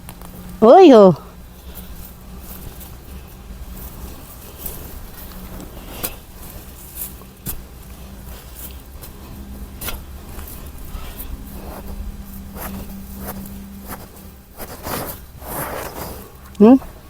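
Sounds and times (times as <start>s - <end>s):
faint steady hum: 0.0s - 17.0s
low steady rumble: 0.0s - 17.0s
plants scraping and rustling: 1.3s - 17.0s.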